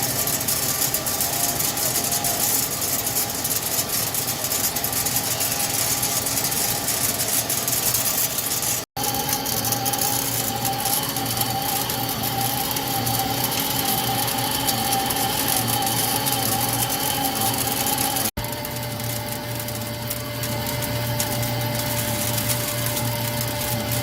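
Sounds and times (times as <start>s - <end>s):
lathe humming and whining: 0.0s - 24.0s
machining noise: 0.0s - 24.0s.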